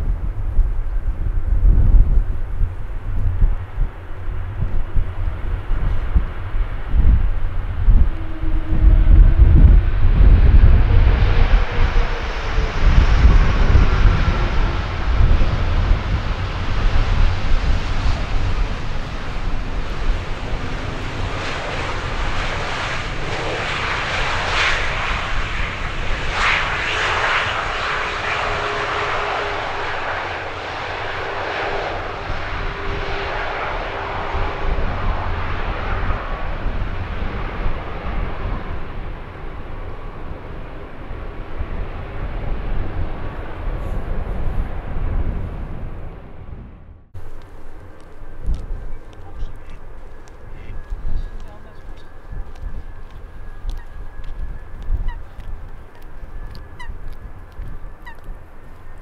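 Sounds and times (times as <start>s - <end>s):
jet engines passing by: 0.0s - 59.0s.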